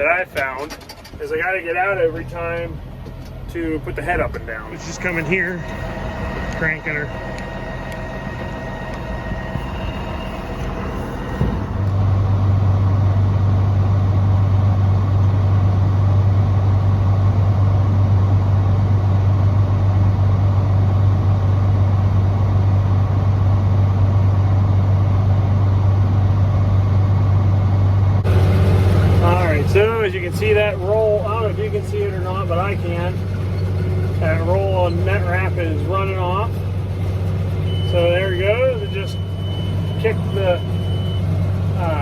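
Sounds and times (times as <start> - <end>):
tractor engine droning: 0.0 - 42.0.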